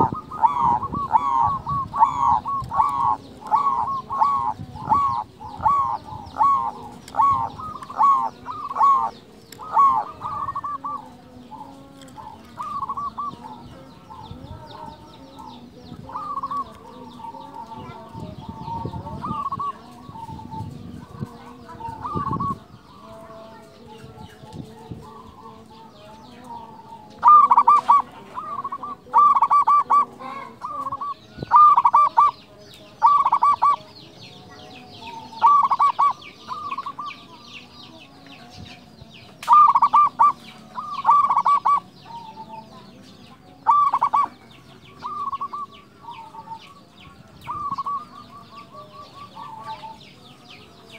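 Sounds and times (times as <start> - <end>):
dove cooing: 0.0 - 34.0, 34.6 - 37.8, 39.4 - 42.8, 43.6 - 50.0
small birds chirping: 0.0 - 50.9.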